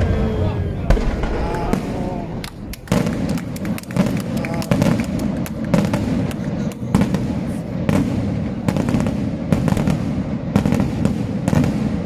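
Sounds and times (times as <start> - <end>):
fireworks crackling: 0.0 - 12.0
firework shells bursting: 0.9 - 12.0.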